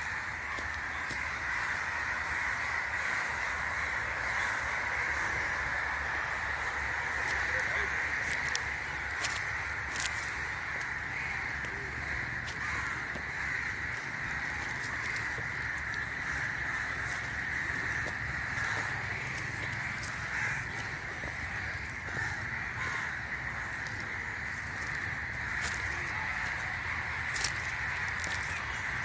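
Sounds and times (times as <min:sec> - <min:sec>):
crows cawing: 0:00.0 - 0:29.0.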